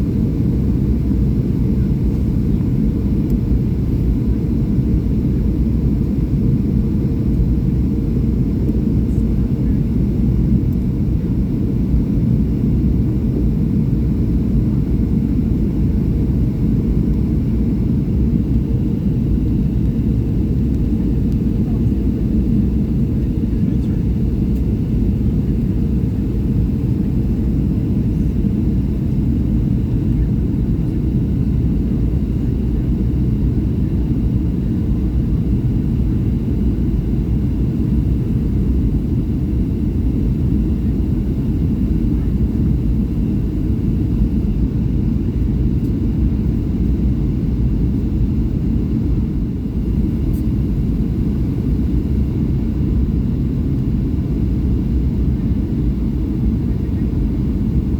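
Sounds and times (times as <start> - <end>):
airplane cabin rumble: 0.0 - 57.9.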